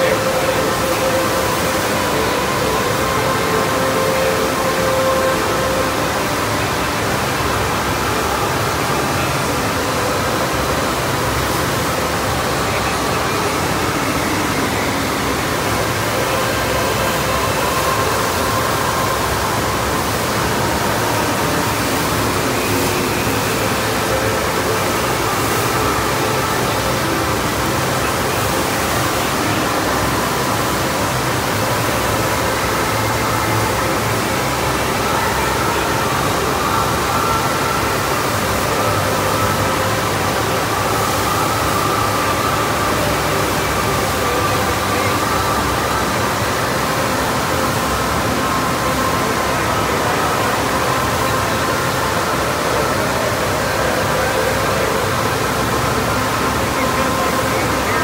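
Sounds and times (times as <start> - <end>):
rushing water on wave simulator: 0.0 - 58.0.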